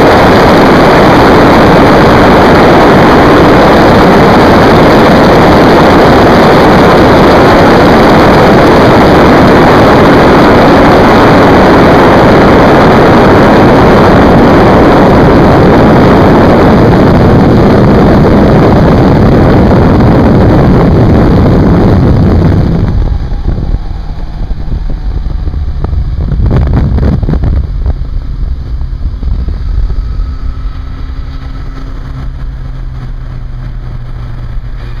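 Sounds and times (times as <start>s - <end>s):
loud wind roar: 0.0s - 35.0s
motorcycle engine: 0.0s - 35.0s.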